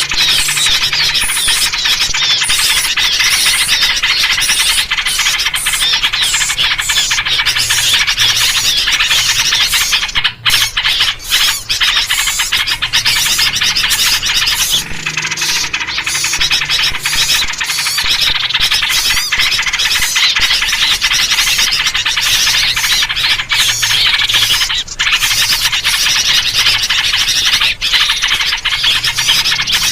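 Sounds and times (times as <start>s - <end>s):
chorus of bird calls: 0.0s - 29.9s.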